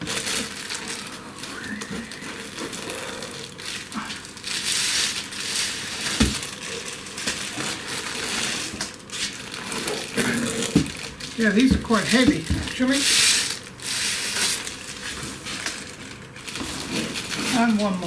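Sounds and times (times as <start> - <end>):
packing material rustling: 0.0 - 18.0.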